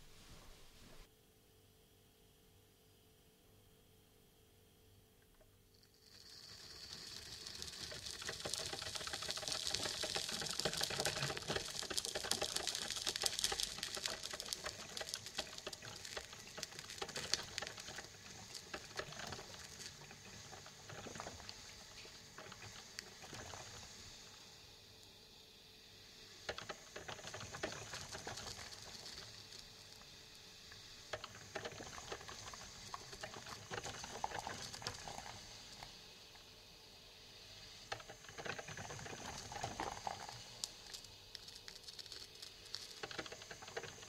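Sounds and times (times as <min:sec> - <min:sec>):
crackle of small pops: 0:05.2 - 0:24.4, 0:26.4 - 0:36.5, 0:37.9 - 0:44.0
coffee maker hissing and sputtering: 0:05.7 - 0:25.0, 0:25.6 - 0:44.0.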